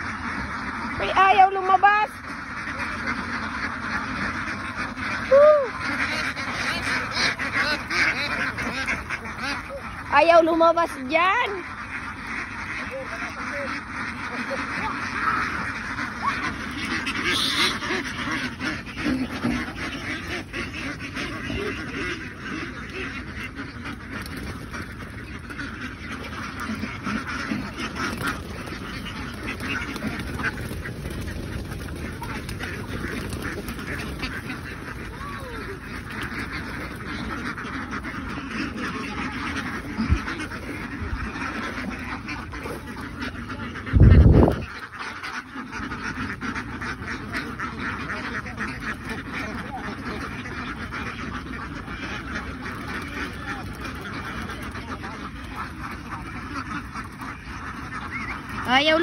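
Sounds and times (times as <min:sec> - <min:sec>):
ducks quacking: 0:00.0 - 0:59.0.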